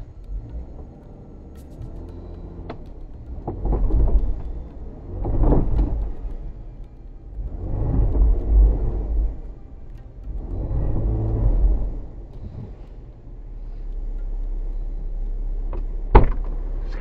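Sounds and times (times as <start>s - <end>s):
car engine revving: 0.0s - 17.0s
tires spinning in mud: 0.0s - 17.0s.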